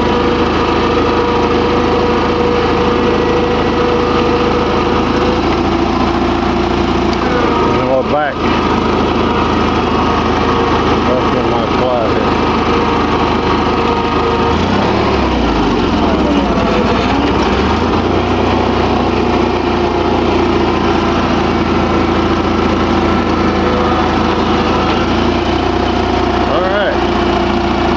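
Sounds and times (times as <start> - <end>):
garden tractor engine running: 0.0 - 27.9.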